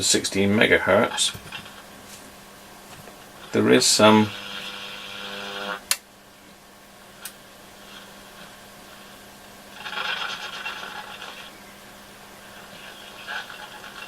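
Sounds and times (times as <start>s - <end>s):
crackly radio static: 0.0s - 14.0s
radio hiss and hum: 0.0s - 14.0s.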